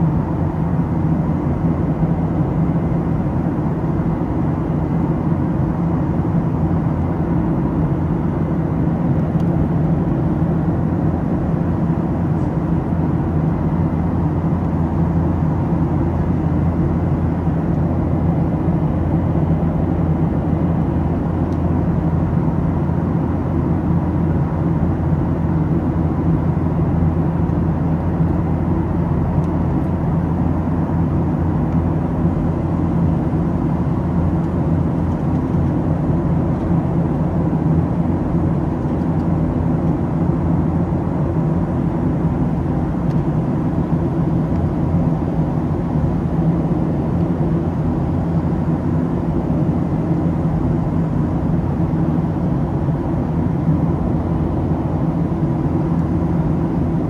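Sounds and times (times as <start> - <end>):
faint steady whine: 0.0 - 57.0
jet engines humming: 0.0 - 57.0.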